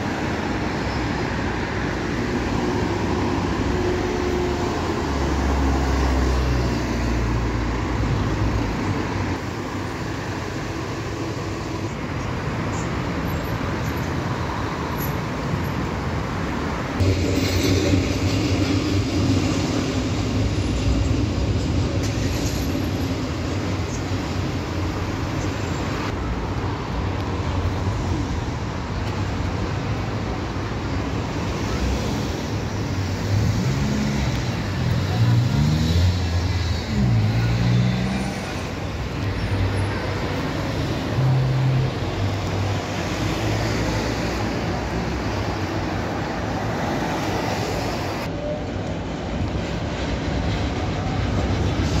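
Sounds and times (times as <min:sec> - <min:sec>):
city street traffic: 0:00.0 - 0:52.0.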